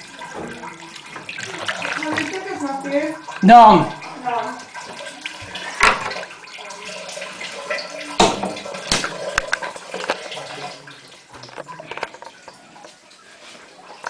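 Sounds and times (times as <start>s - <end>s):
water splashing and trickling: 0.0s - 14.0s.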